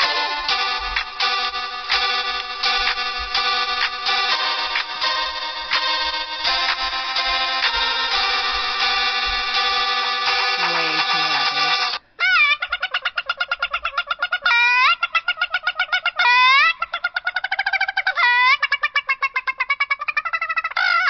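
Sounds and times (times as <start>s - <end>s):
rapid warbling trill: 0.0s - 21.0s.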